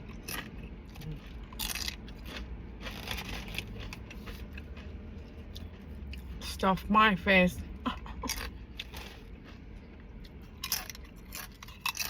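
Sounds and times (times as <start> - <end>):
chewing crunchy chips: 0.0 - 6.5, 8.0 - 12.0
low steady hum: 0.0 - 12.0.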